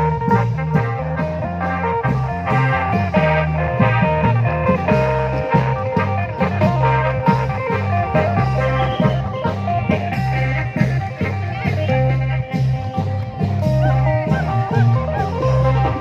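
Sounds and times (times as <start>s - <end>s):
drum procession band playing: 0.0s - 16.0s.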